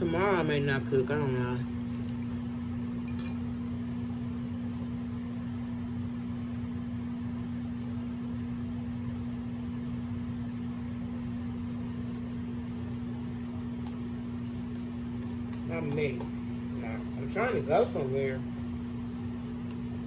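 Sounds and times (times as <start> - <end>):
household appliance humming: 0.0 - 20.0.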